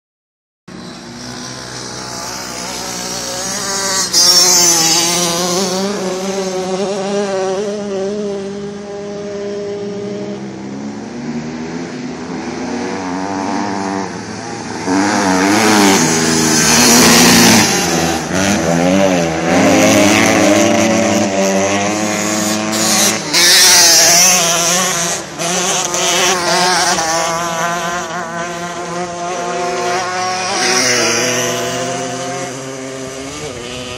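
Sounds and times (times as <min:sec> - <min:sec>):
dirt bike engines revving: 0:00.7 - 0:33.9.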